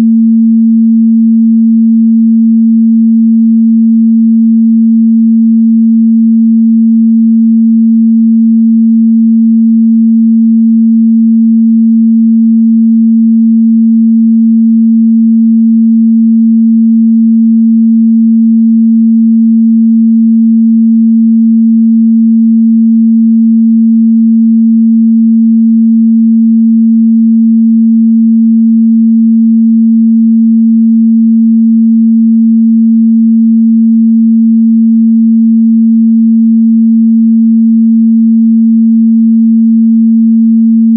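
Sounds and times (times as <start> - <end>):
sine wave test tone: 0.0 - 40.9.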